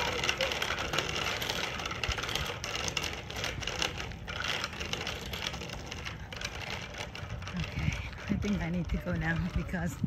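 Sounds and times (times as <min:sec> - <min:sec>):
bicycle clicks and rattles: 0:00.0 - 0:10.0
tyres rumbling on asphalt: 0:00.0 - 0:10.0.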